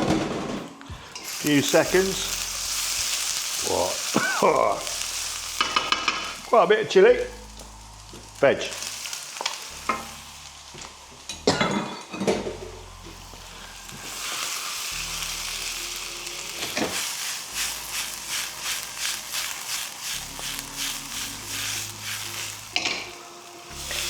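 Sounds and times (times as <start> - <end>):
vegetables sizzling in hot oil: 1.1 - 24.0.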